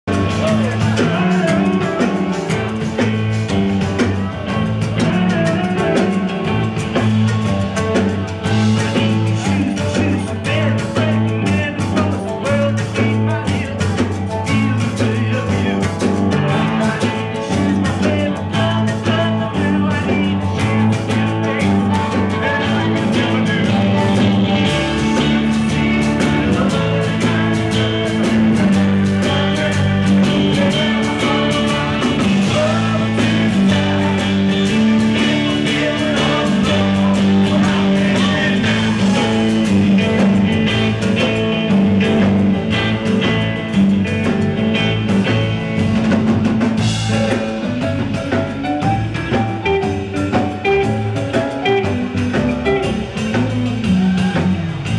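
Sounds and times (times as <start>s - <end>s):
bass guitar: 0.0s - 54.9s
drums: 0.0s - 54.9s
electric guitars: 0.0s - 54.9s
keyboards: 0.0s - 54.9s
person singing: 0.1s - 43.4s, 46.7s - 54.9s.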